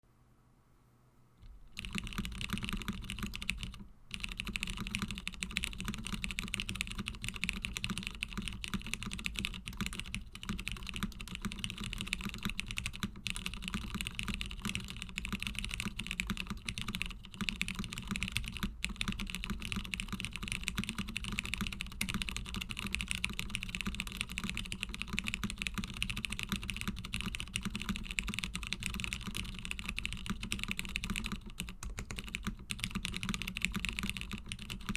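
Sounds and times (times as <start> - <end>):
typing on mechanical keyboard: 1.4 - 34.9.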